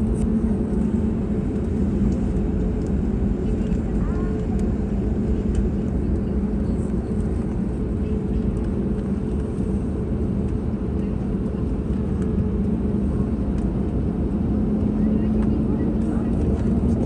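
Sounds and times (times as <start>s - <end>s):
airplane cabin engine rumble: 0.0s - 17.0s
constant hum: 0.0s - 17.0s.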